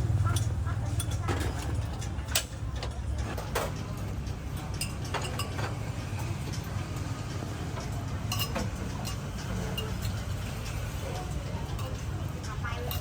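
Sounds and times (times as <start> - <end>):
dishes and utensils clinking: 0.2 - 13.0.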